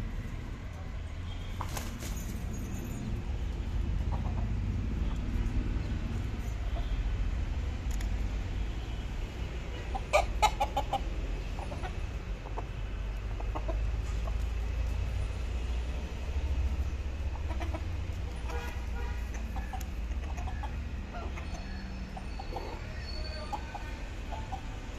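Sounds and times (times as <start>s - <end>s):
roosters clucking: 1.0s - 8.4s, 9.0s - 24.9s.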